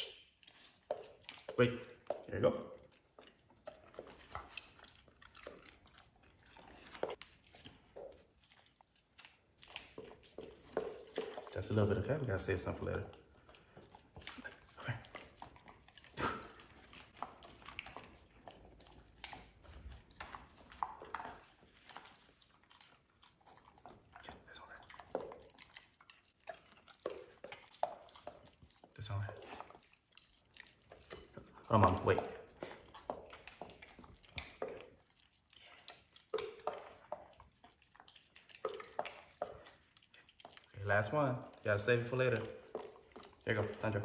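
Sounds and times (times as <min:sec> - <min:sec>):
dog jaws chewing and snapping: 0:00.0 - 0:44.0.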